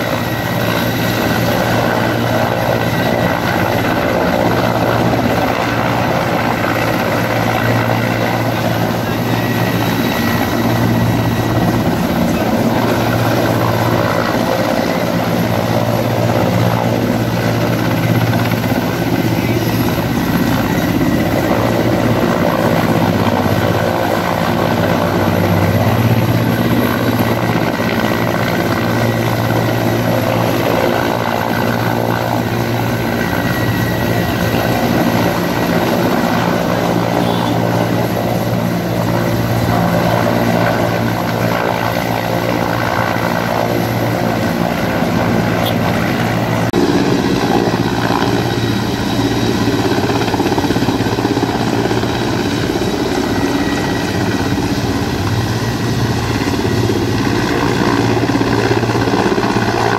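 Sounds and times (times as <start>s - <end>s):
helicopter rotor and turbine drone: 0.0s - 59.9s.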